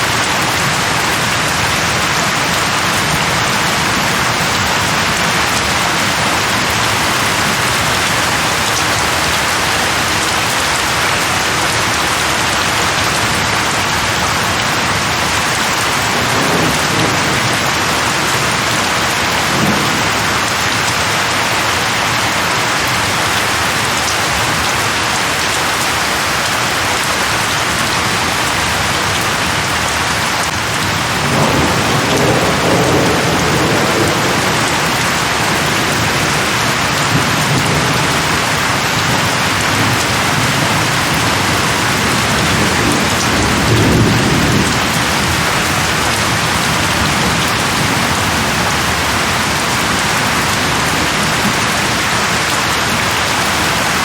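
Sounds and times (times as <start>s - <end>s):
thunder rumbling: 0.0s - 23.6s, 28.2s - 54.0s
rain falling on leaves: 0.0s - 54.0s.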